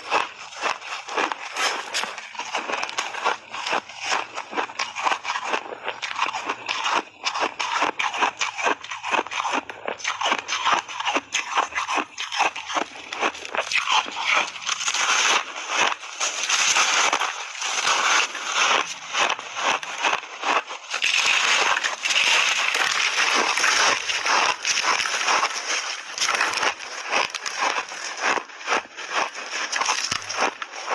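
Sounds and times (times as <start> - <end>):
chewing ice crunching: 0.0 - 30.9.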